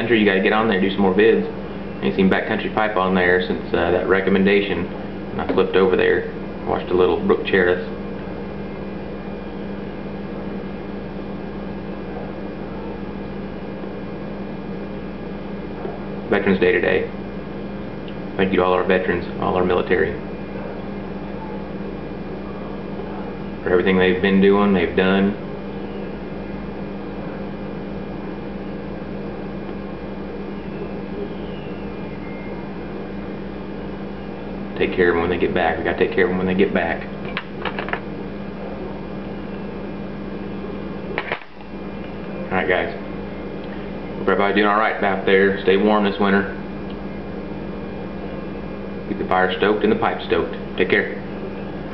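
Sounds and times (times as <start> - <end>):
electrical hum with hiss: 0.0 - 51.9.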